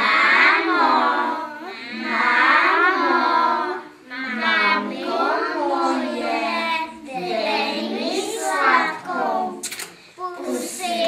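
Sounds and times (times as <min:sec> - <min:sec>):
children singing: 0:00.0 - 0:09.6, 0:10.2 - 0:11.0.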